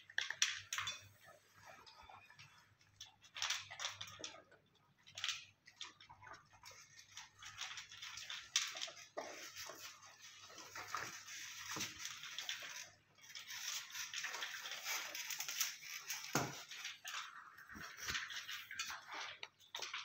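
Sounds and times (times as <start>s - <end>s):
cat crunching dry kibble: 2.9s - 20.0s.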